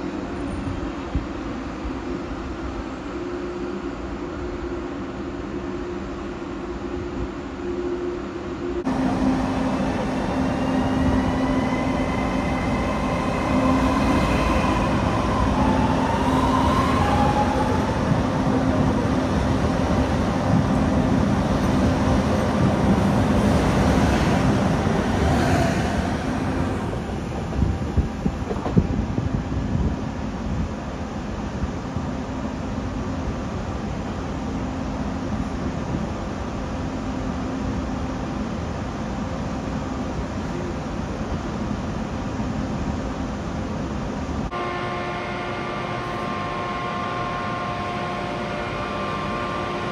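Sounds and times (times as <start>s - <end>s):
electric train humming: 0.0s - 49.9s
rail and wheel noise: 0.0s - 49.9s.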